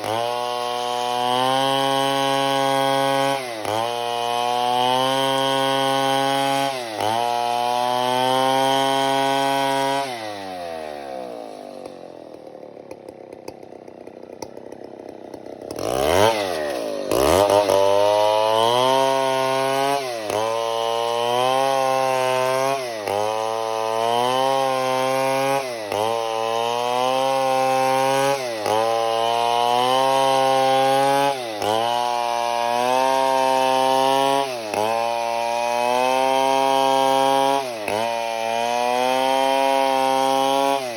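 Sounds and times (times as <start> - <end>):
chainsaw cutting timber: 0.0 - 40.9.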